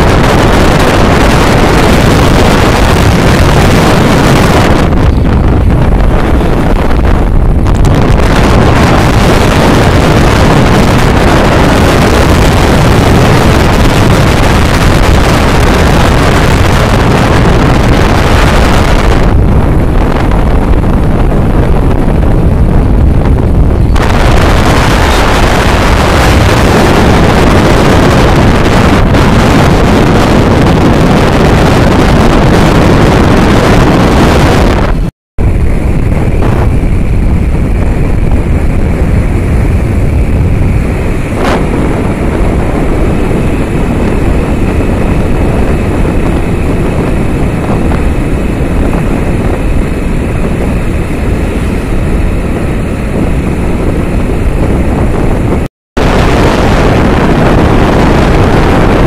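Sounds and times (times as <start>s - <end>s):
motorcycle engine and road rumble: 0.0s - 59.0s
wind buffeting microphone: 0.0s - 59.0s.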